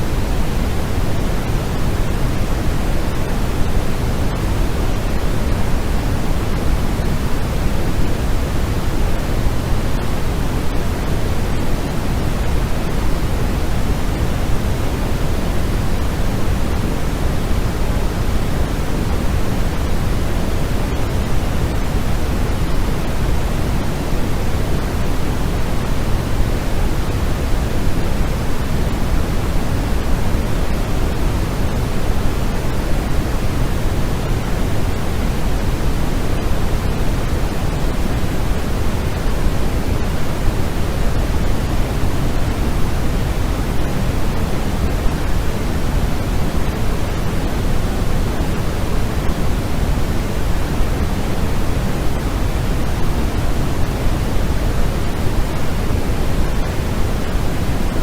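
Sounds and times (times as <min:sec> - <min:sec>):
low-weighted noise hiss and rumble: 0:00.0 - 0:58.0.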